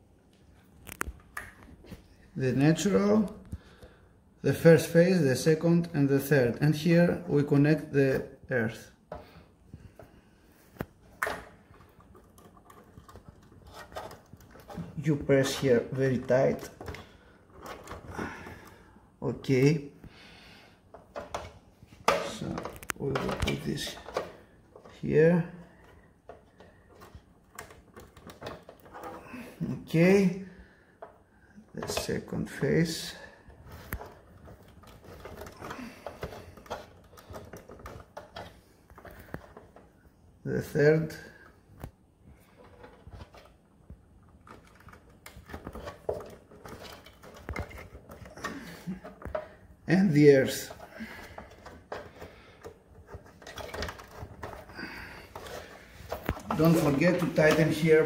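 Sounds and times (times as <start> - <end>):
wire handling noise: 0.2 - 4.0, 6.6 - 20.2, 20.8 - 58.0.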